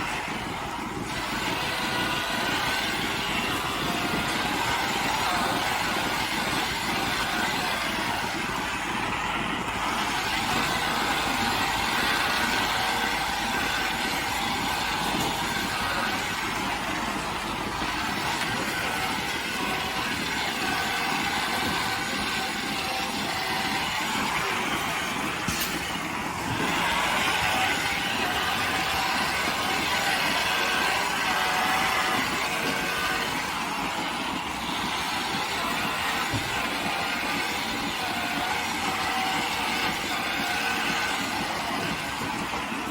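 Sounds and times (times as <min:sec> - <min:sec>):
farm machinery running: 0:00.0 - 0:42.9.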